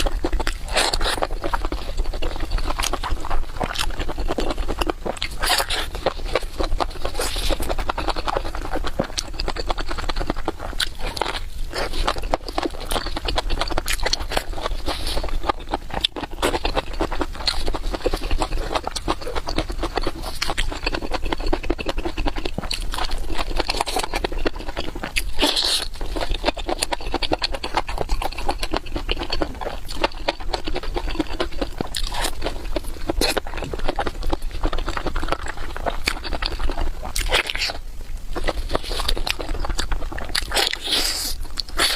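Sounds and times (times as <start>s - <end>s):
person chewing crunchy food: 0.0s - 41.9s.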